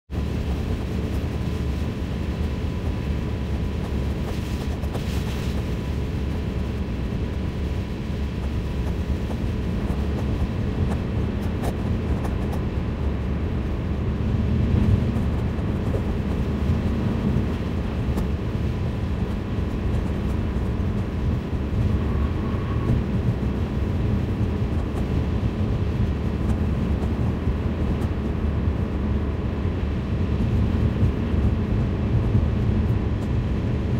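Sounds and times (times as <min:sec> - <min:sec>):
car road noise inside cabin: 0:00.1 - 0:33.9.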